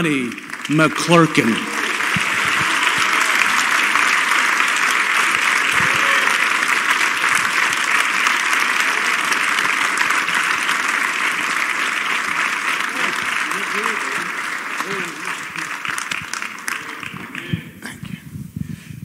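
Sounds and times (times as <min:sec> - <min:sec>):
congregation applauding: 0:00.0 - 0:18.2.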